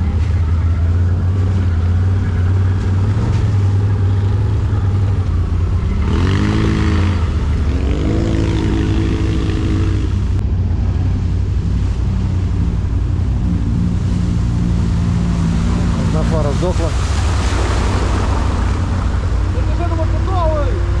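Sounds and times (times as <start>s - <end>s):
quad bike engine revving: 0.0s - 11.2s, 12.2s - 21.0s.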